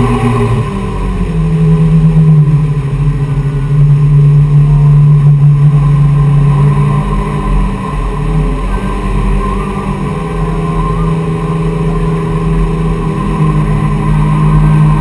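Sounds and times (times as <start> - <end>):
boat engines droning: 0.0 - 15.0.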